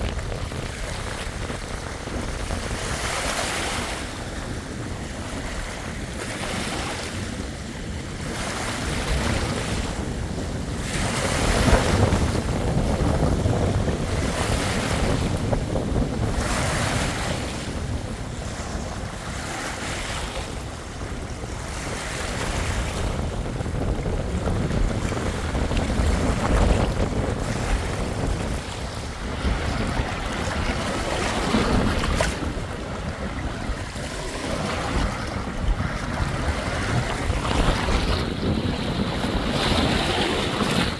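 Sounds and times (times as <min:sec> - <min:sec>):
waves washing in and out: 0:00.0 - 0:40.9
wind buffeting microphone: 0:00.0 - 0:40.9.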